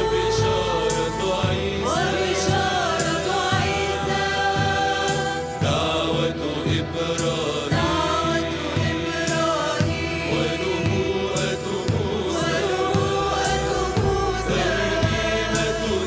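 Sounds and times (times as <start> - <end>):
mixed choir singing: 0.0 - 16.0.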